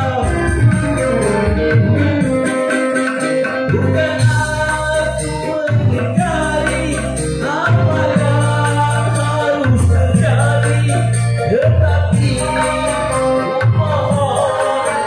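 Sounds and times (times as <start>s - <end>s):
keyboard and guitar band music: 0.0s - 15.0s
man singing into microphone: 0.0s - 15.0s.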